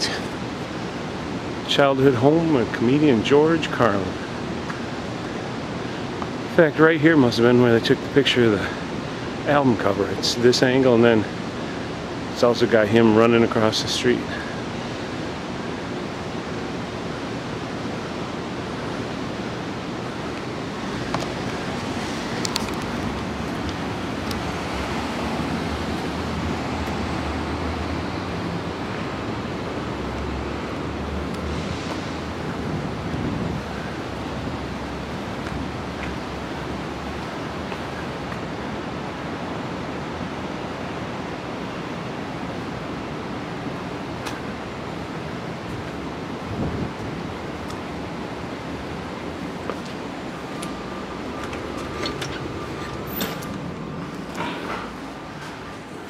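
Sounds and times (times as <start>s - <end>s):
city street noise: 0.0s - 56.0s.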